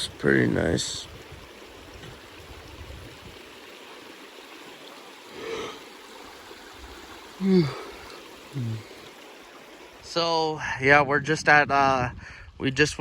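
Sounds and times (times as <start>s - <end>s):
flowing water: 0.0s - 11.7s.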